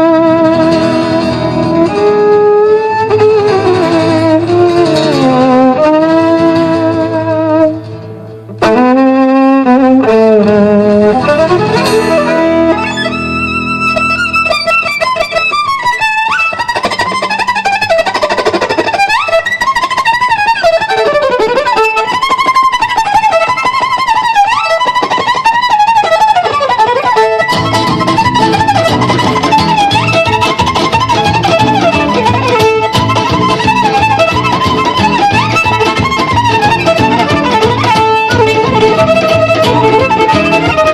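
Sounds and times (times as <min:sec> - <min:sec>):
rhythmic accompaniment: 0:00.0 - 0:40.9
violin playing: 0:00.0 - 0:40.9.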